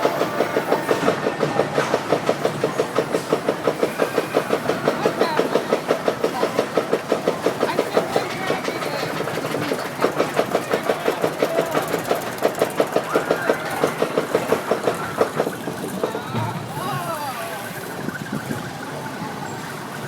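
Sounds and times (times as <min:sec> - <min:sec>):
roller coaster lift chain clacking: 0:00.0 - 0:20.0.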